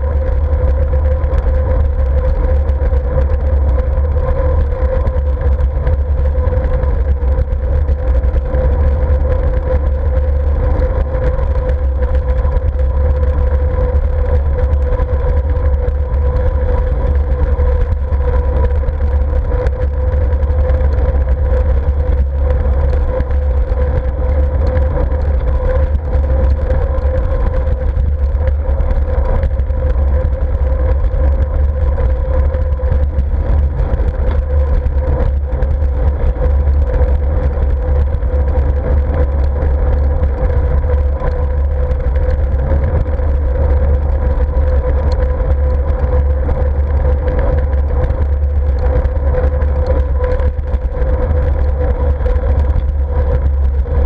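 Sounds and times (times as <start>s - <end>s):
constant hum: 0.0s - 54.0s
wind buffeting microphone: 0.0s - 54.0s.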